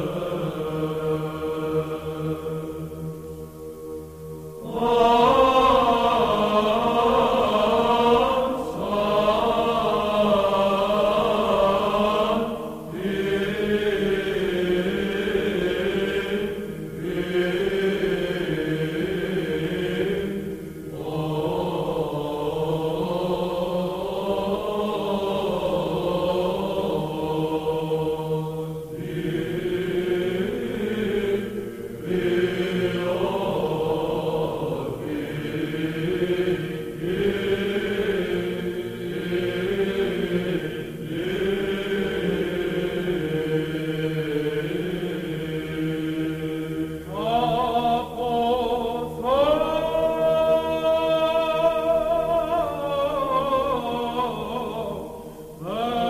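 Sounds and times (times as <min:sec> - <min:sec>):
chanted vocal music: 0:00.0 - 0:56.0.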